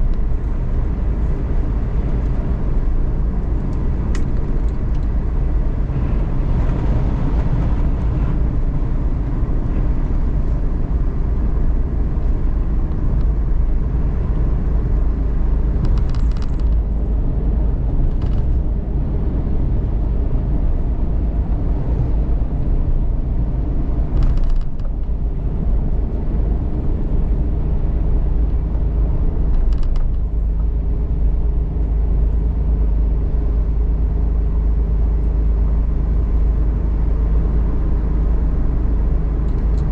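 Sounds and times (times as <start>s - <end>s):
van engine and road rumble: 0.0s - 39.9s.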